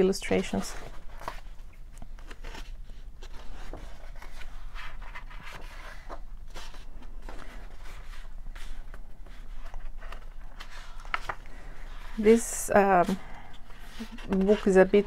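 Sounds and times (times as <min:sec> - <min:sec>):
steady low hum: 0:00.0 - 0:15.0
book pages turning: 0:00.3 - 0:15.0.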